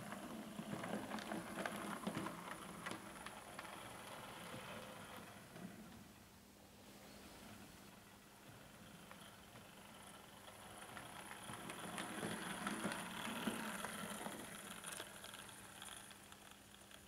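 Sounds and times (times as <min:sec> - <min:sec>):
model locomotive whirring and clicking: 0:00.0 - 0:06.0, 0:07.5 - 0:17.0.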